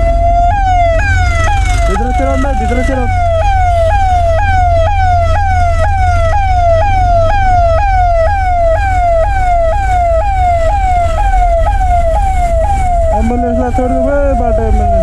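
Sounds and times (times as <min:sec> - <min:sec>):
electronic siren sweeping: 0:00.0 - 0:15.0
low rumble: 0:00.0 - 0:15.0.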